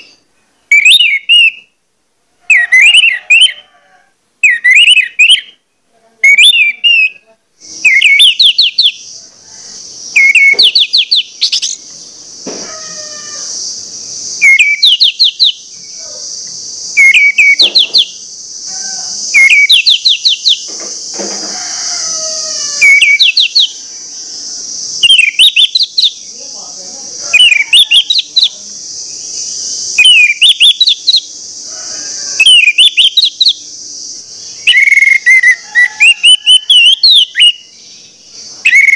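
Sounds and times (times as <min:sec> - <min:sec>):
thrush singing whistled notes: 0:00.0 - 0:01.8, 0:02.5 - 0:03.7, 0:04.4 - 0:05.6, 0:06.2 - 0:38.9
steady high hiss: 0:00.0 - 0:38.9.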